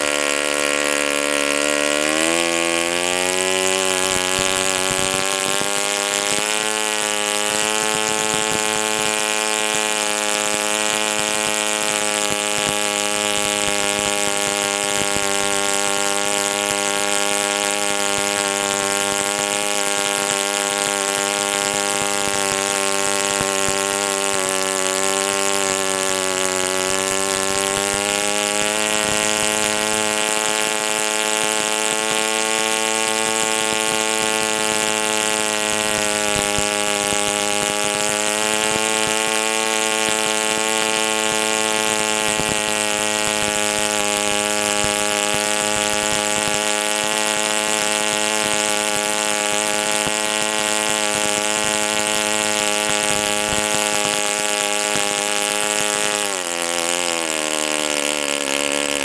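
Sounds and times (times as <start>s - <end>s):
model aircraft engine running: 0.0s - 59.0s.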